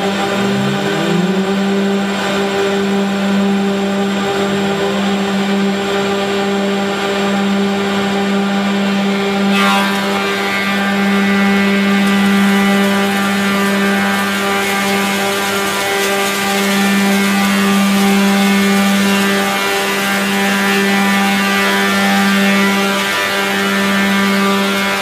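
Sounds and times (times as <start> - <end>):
higher whine: 0.0 - 21.5
wood moulder motors humming: 0.0 - 25.0.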